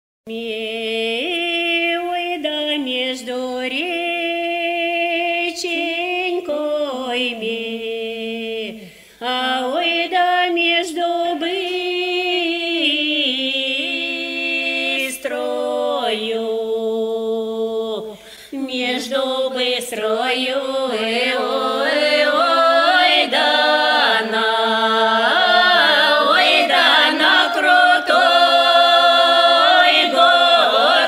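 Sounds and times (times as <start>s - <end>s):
unaccompanied folk singing: 0.3s - 31.0s.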